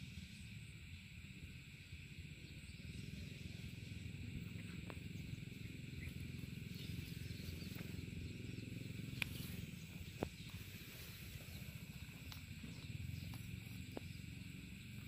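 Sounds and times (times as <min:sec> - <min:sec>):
high hiss: 0:00.0 - 0:15.0
steady low rumble: 0:00.0 - 0:15.0.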